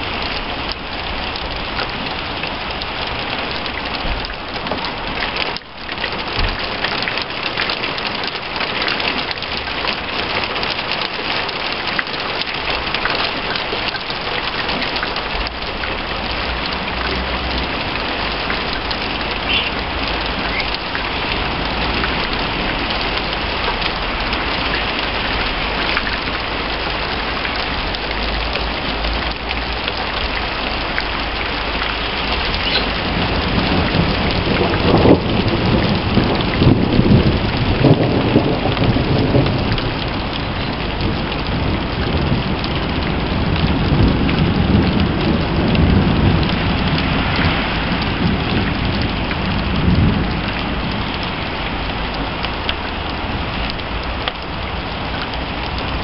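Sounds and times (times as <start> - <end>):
heavy rain pattering: 0.0 - 56.0
low rumble of thunder: 0.0 - 56.0.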